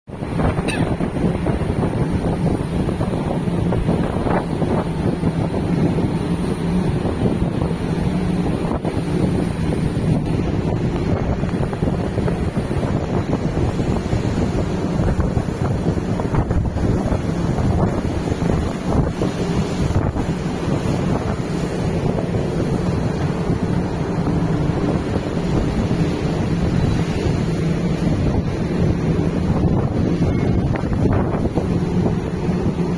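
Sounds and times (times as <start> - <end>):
water rushing along ship hull: 0.1 - 32.9
wind buffeting microphone: 0.1 - 32.9.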